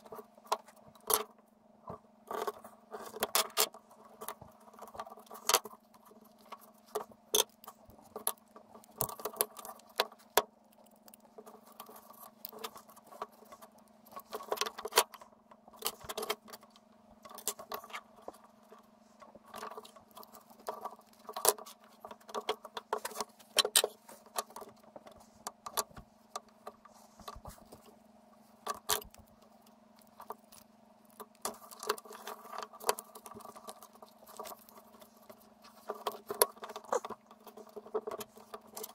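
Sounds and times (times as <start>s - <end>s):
steady low hum: 0.0s - 38.9s
tools scratching and tapping on wood: 1.9s - 27.9s, 28.6s - 38.9s.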